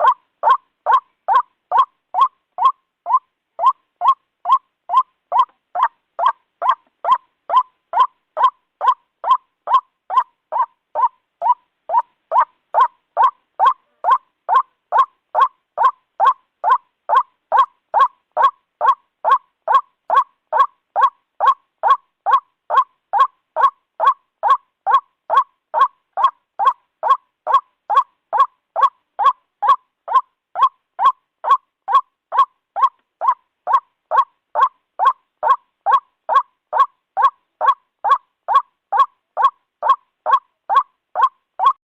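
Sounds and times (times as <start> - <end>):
bird croaking call: 0.0 - 41.8.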